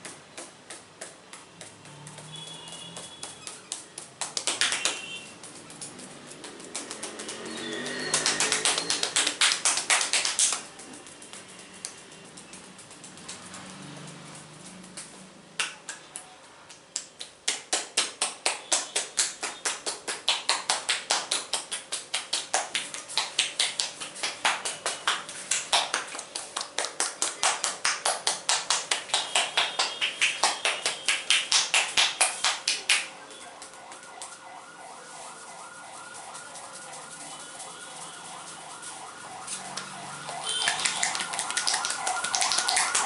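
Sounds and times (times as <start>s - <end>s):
hands slapping head: 0.0s - 34.5s, 38.8s - 43.0s.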